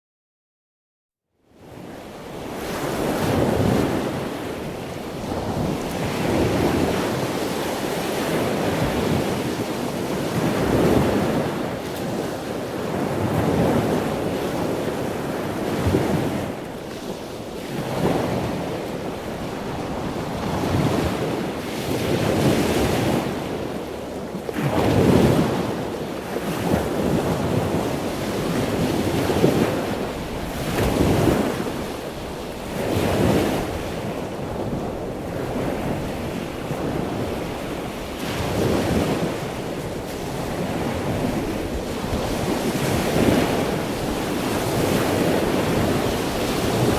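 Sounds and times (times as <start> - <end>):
rushing sea: 1.5 - 46.9
wind buffeting microphone: 1.7 - 46.9.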